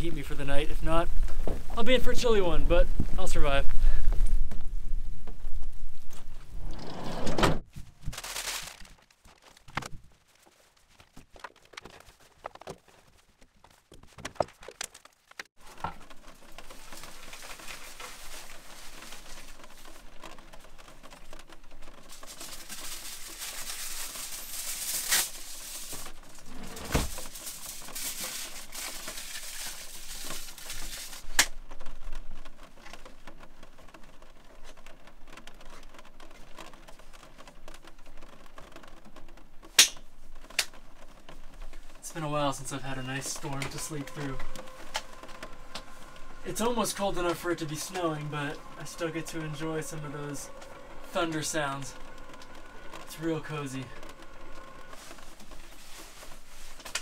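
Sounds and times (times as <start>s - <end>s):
objects knocking and crinkling: 7.6s - 57.0s.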